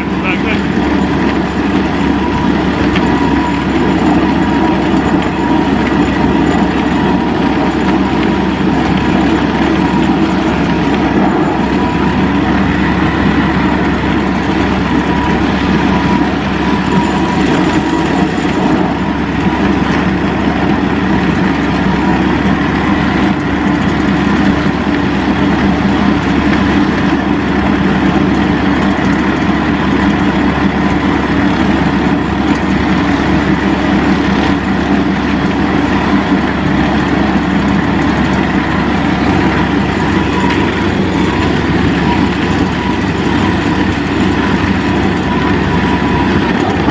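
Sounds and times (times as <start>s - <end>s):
snowmobile engine running: 0.0s - 46.9s.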